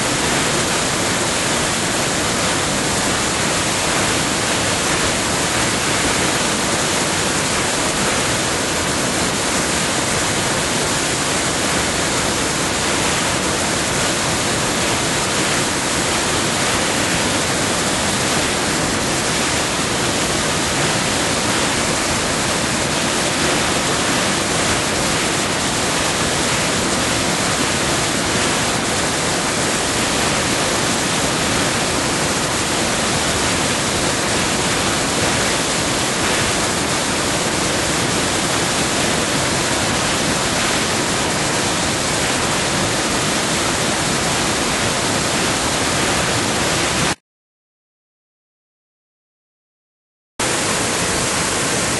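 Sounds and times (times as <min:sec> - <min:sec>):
water rushing over rocks: 0:00.0 - 0:47.2, 0:50.4 - 0:51.9.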